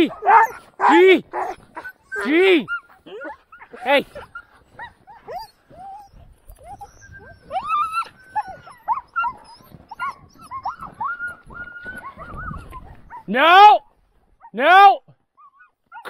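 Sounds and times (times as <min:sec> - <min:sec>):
sled dogs whining and yipping: 0:00.0 - 0:16.0.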